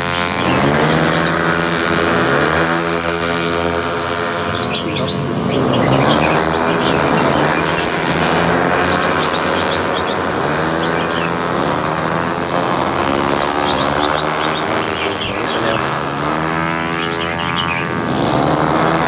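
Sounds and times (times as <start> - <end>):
bird chirps: 0.0 - 19.0
racing car engines revving: 0.0 - 19.0.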